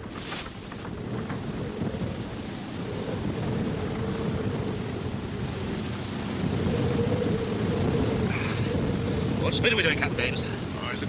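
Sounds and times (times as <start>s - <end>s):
wind and sea rushing: 0.0s - 11.0s.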